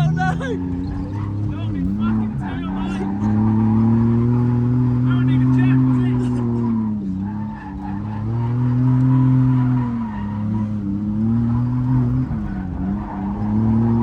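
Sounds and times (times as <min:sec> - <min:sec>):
car engine at high revs: 0:00.0 - 0:14.0
tyres squealing and skidding: 0:00.0 - 0:14.0.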